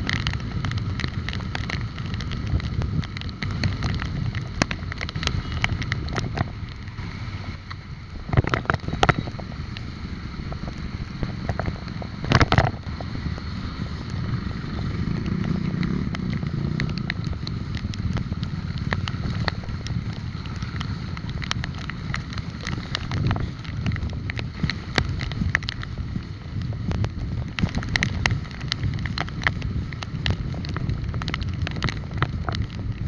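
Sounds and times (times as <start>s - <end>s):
bike clicks and rattles: 0.0s - 6.9s, 10.4s - 33.0s
road and traffic noise: 0.0s - 33.0s
wind buffeting microphone: 0.0s - 33.0s.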